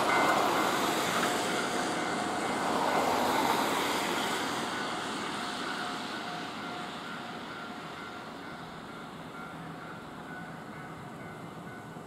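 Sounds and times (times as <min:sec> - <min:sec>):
electric train running slowly: 0:00.0 - 0:12.0.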